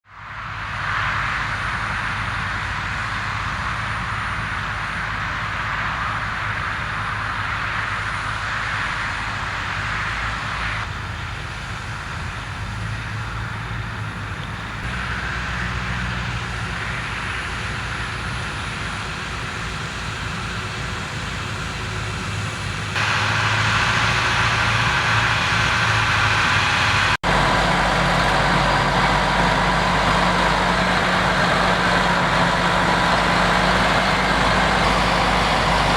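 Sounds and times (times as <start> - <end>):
tractor engines running: 0.0 - 35.9.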